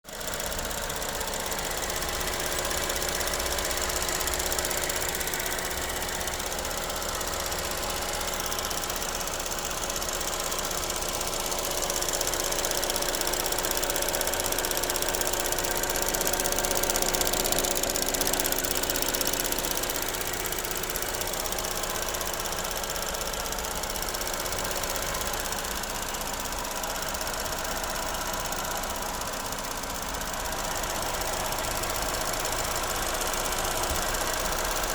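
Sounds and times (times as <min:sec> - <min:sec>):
car engine running: 0:00.1 - 0:34.9
fast rattle: 0:00.1 - 0:34.9.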